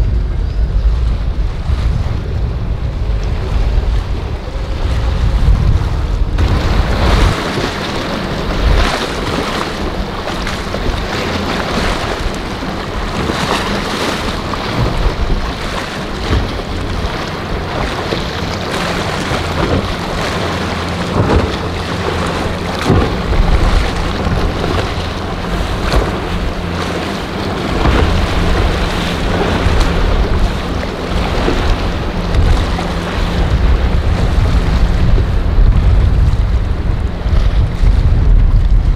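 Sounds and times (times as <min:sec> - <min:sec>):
outboard boat engines humming: 0:00.0 - 0:38.9
waves washing: 0:00.0 - 0:38.9
wind buffeting microphone: 0:00.0 - 0:38.9.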